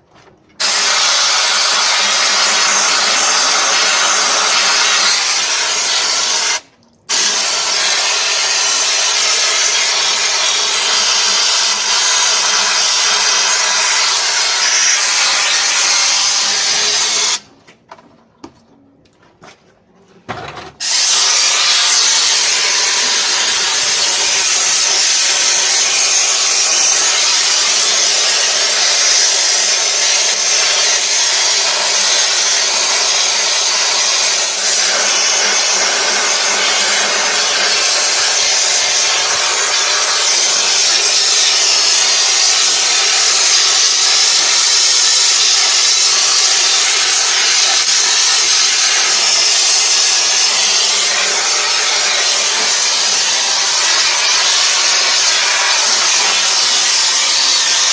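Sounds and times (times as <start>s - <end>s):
pressure washer spraying water: 0.6s - 17.5s, 20.8s - 57.9s.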